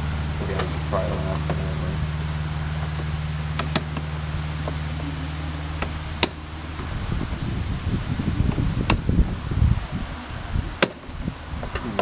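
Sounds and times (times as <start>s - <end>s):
steady low hum: 0.0s - 12.0s
wind buffeting microphone: 0.0s - 12.0s.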